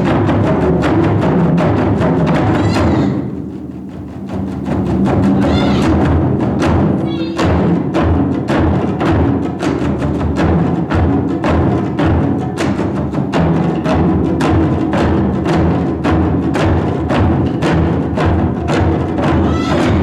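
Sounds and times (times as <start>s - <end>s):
taiko drums playing: 0.0s - 20.0s.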